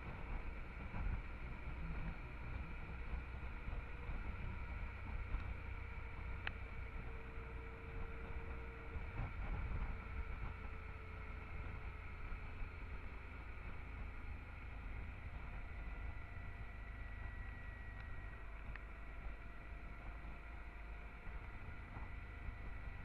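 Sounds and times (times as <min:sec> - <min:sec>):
motorcycle engine low rumble: 0:00.0 - 0:23.0.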